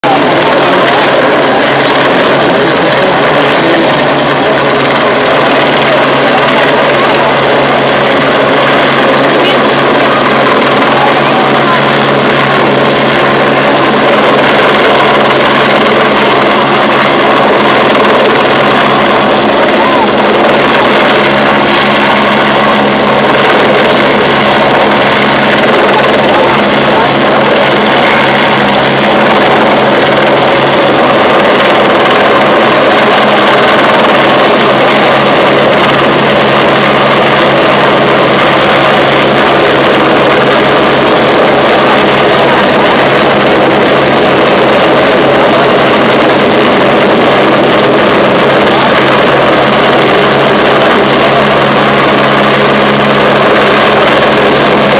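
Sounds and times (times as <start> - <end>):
helicopter overhead: 0.0 - 54.9.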